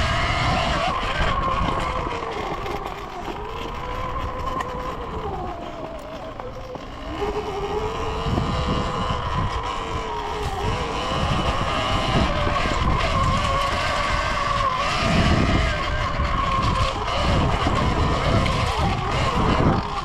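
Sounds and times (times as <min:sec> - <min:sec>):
electric dirt bike motor whining: 0:00.0 - 0:20.0
low rumble of wind: 0:00.0 - 0:20.0.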